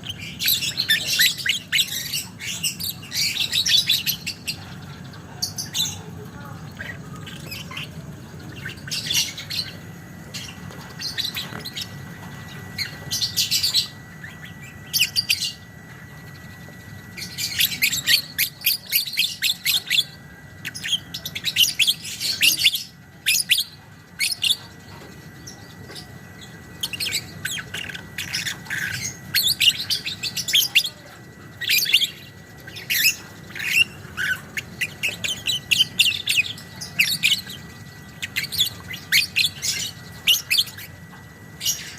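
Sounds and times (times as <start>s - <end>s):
lovebird chattering trill: 0.0s - 41.9s.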